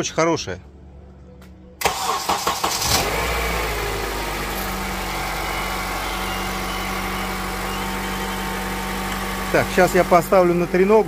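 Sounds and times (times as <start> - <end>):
car engine starting and idling: 1.8 - 11.0.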